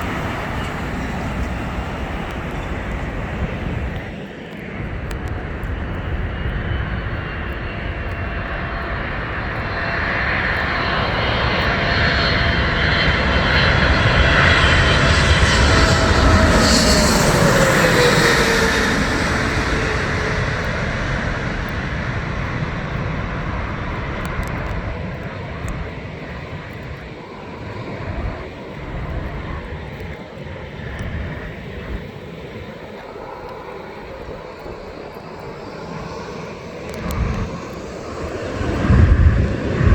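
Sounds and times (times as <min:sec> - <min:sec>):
jet airliner engines passing: 0:00.0 - 0:39.9.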